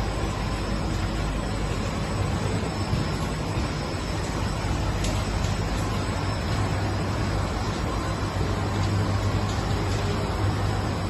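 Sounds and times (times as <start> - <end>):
machine running with low hum: 0.0 - 11.0.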